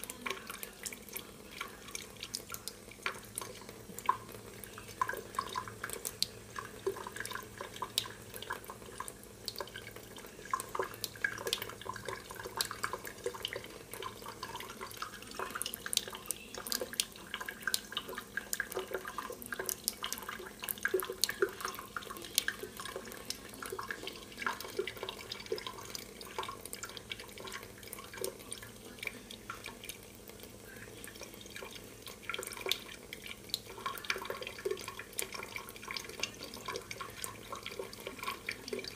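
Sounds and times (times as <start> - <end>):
faucet trickling into metal sink: 0.0 - 38.9
water drips and splashes: 0.0 - 38.9.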